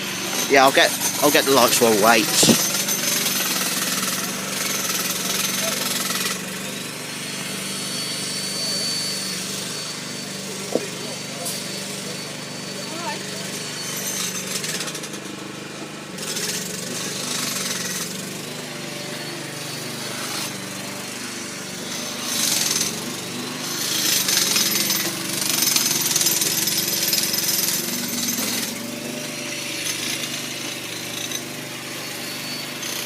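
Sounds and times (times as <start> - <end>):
jackhammer hammering: 0.0 - 8.4, 9.2 - 33.0.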